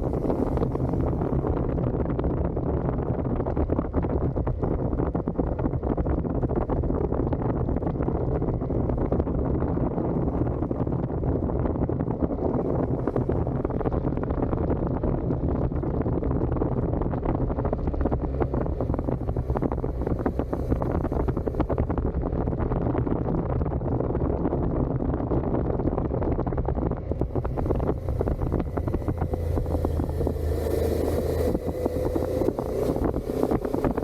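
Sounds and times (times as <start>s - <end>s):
motorcycle engine running: 0.0s - 34.0s
wind buffeting microphone: 0.0s - 34.0s.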